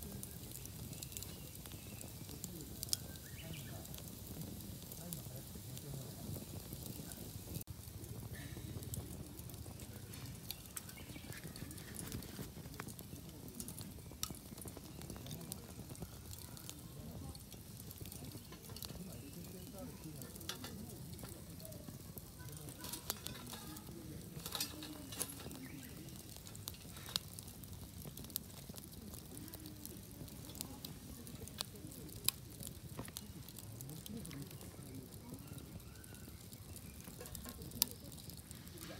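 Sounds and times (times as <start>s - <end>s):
fire popping and snapping: 0.0s - 38.9s
low steady fire hiss: 0.0s - 38.9s
wood fire crackling: 0.0s - 38.9s.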